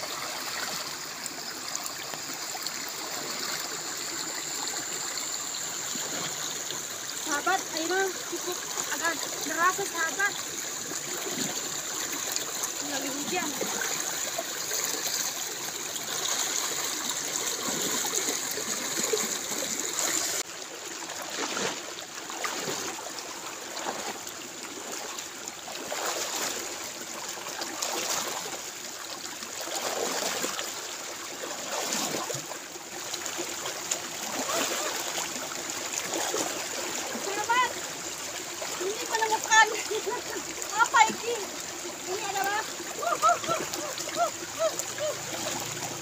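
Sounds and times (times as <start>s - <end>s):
water splashes: 0.0s - 46.0s
water trickling in a ditch: 0.0s - 46.0s.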